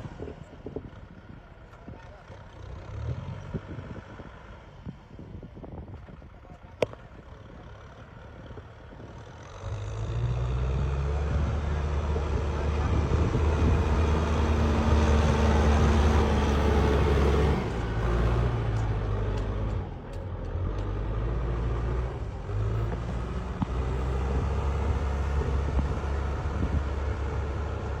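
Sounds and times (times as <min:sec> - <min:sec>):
tractor engine running: 0:03.5 - 0:28.0.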